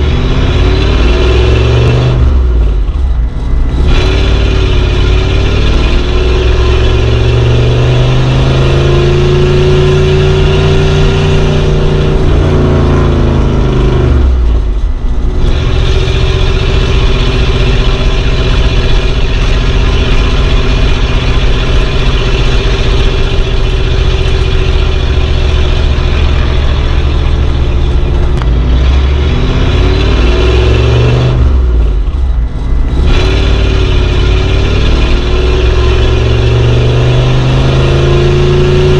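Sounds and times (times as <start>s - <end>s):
car engine under load: 0.0s - 38.9s.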